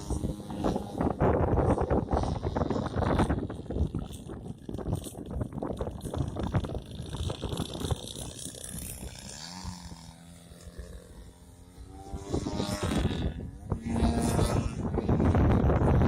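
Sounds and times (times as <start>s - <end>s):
model plane engine: 0.0s - 16.0s
wind buffeting microphone: 0.0s - 16.0s.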